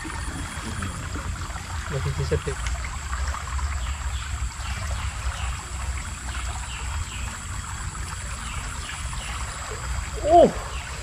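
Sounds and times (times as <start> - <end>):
small river flowing: 0.0 - 11.0.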